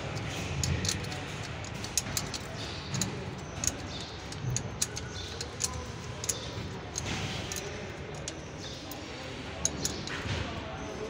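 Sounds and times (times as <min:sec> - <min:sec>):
metallic clicks of parts and tools: 0:00.0 - 0:10.6.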